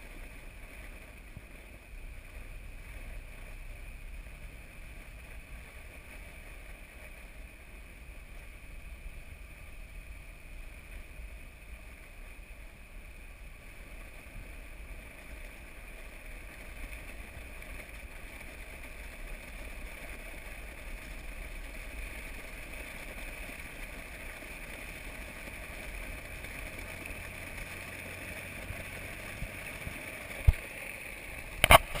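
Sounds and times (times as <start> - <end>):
engine and tyres rumbling: 0.0 - 32.0.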